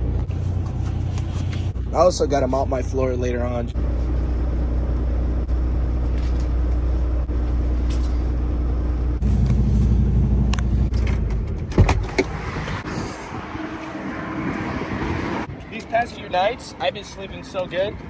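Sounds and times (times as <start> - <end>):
truck engine low rumble: 0.0 - 16.6.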